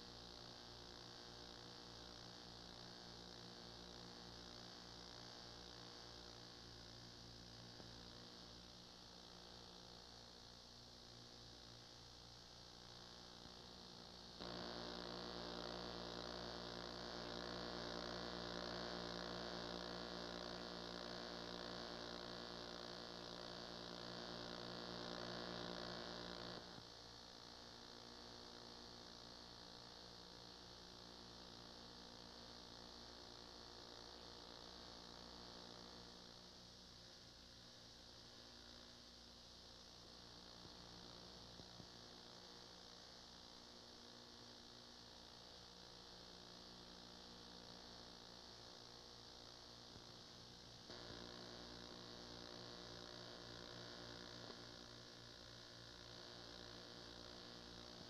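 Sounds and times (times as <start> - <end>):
electrical mains hum with hiss: 0.0 - 58.0.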